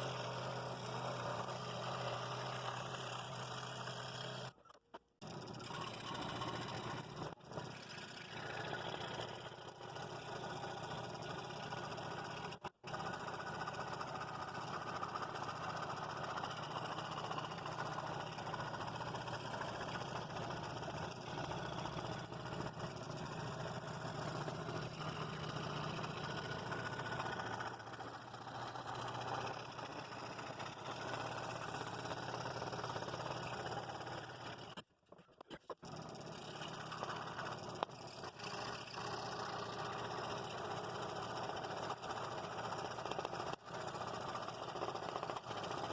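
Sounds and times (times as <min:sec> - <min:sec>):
scroll saw cutting wood: 0:00.0 - 0:45.9.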